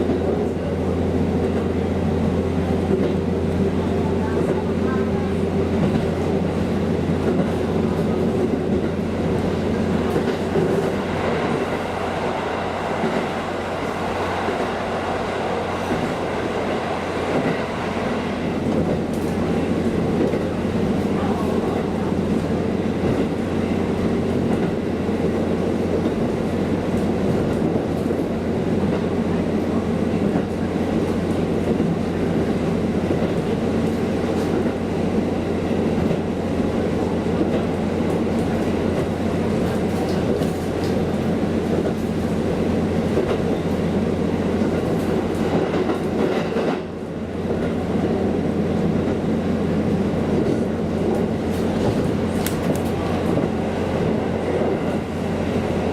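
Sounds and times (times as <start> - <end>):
diesel railcar engine drone: 0.0 - 55.9.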